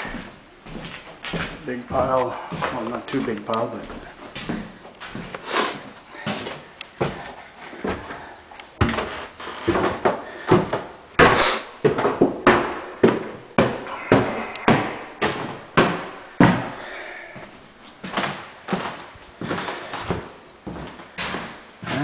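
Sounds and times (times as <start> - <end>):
footsteps on wooden stairs: 0.0 - 22.0.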